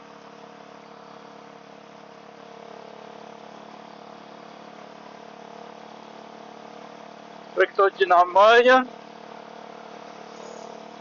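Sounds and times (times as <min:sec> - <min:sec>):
muffled motorcycle engine: 0:00.0 - 0:11.0.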